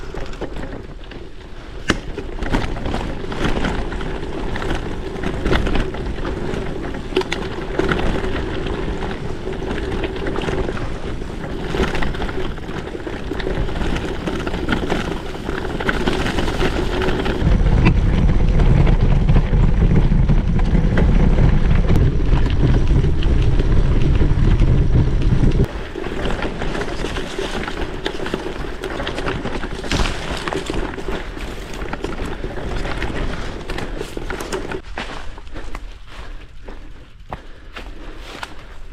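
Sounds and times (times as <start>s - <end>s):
bike clicks and rattles: 0.0s - 38.9s
wind buffeting microphone: 0.0s - 38.9s.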